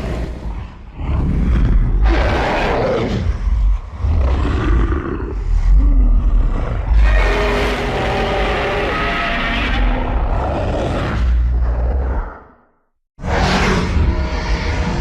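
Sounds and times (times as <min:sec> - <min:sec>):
roar sound effects: 0:00.0 - 0:15.0.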